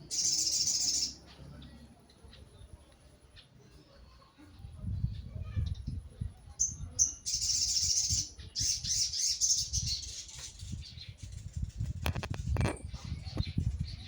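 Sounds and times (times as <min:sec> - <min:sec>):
bird chirping: 0:00.0 - 0:04.2, 0:05.4 - 0:14.0.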